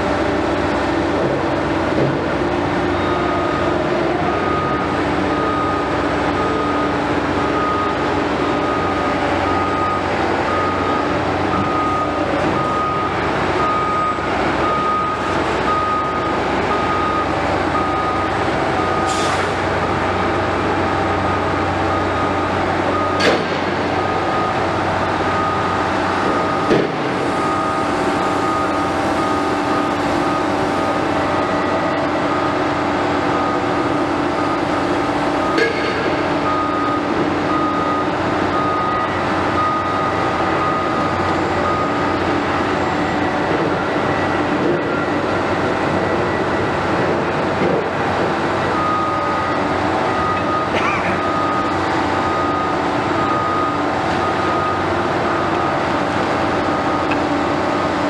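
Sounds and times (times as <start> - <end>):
diesel engines droning: 0.0 - 58.0
reversing alarm beeping: 0.0 - 58.0.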